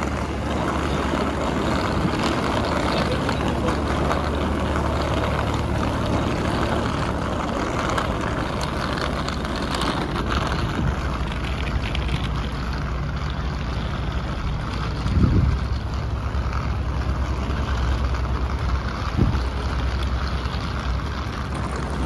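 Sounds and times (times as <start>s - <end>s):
broad rushing noise: 0.0s - 22.0s
low mechanical drone: 0.0s - 22.0s.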